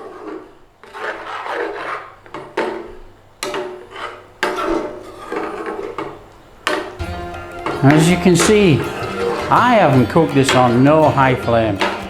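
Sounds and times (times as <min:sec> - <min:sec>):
spoon scraping a pan: 0:00.0 - 0:12.0.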